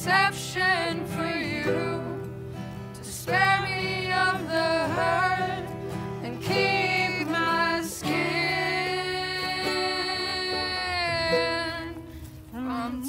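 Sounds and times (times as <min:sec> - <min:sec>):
person singing: 0:00.0 - 0:13.0
plucked acoustic guitar: 0:00.0 - 0:13.0
ukulele: 0:00.0 - 0:13.0.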